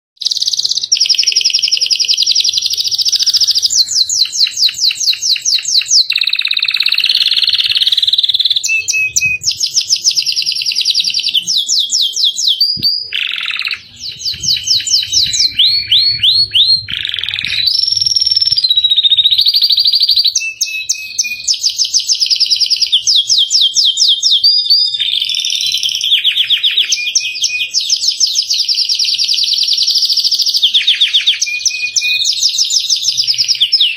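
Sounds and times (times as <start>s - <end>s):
canary singing in trills: 0.2s - 33.9s.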